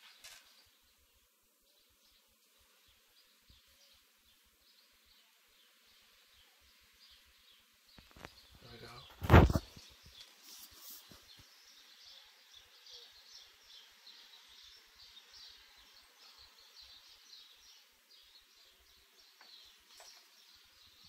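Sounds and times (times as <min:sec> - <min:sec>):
birds chirping: 0:00.0 - 0:21.0
faint background hiss: 0:00.0 - 0:21.0.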